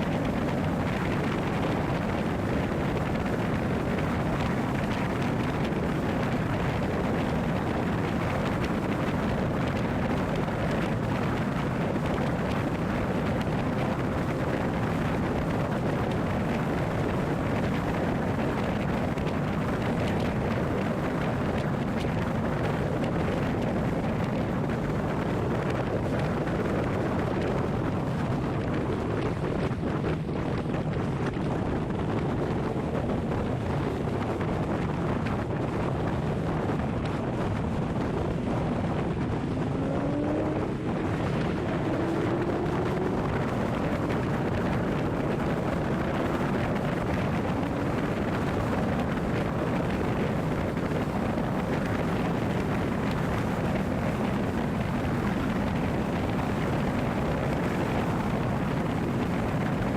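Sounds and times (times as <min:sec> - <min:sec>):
rumbling rush of noise: 0:00.0 - 0:59.9
wind on microphone: 0:00.0 - 0:59.9.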